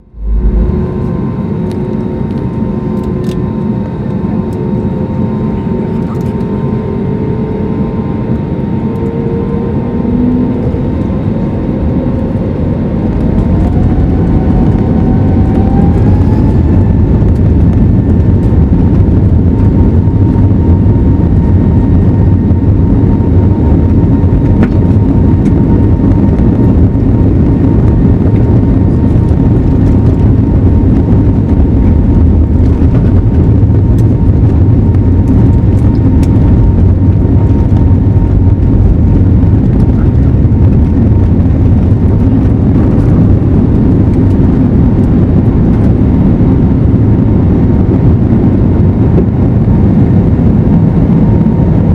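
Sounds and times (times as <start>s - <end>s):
jet engines spooling up: 0.0s - 5.2s, 6.0s - 48.4s.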